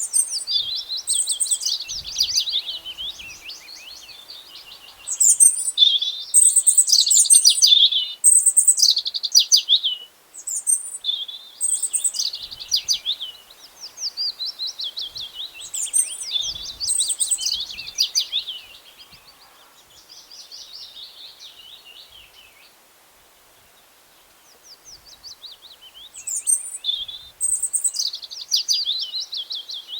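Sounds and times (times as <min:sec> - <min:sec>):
songbirds chirping and trilling: 0:00.0 - 0:22.8, 0:23.4 - 0:29.9.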